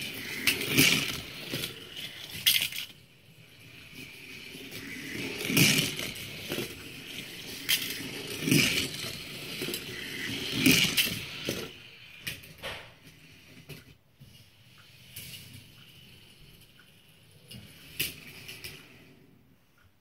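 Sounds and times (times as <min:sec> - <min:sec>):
toy cars rolling on plastic track: 0:00.0 - 0:19.9.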